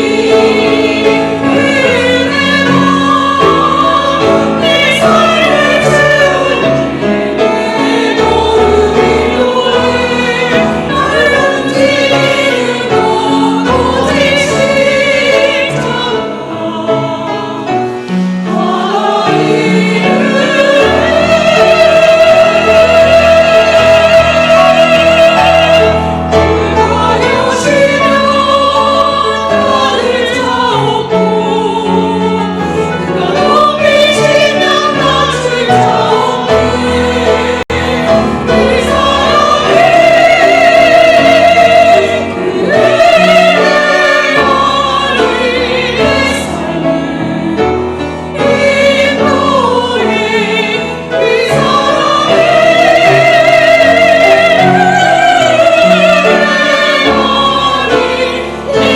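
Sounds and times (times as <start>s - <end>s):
choir singing a hymn: 0.0s - 58.9s
piano accompaniment: 0.0s - 58.9s.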